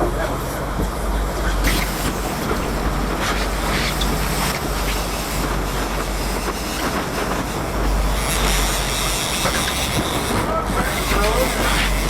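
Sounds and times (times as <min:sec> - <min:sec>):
boat engine drone: 0:00.0 - 0:12.0
water noise: 0:00.0 - 0:12.0.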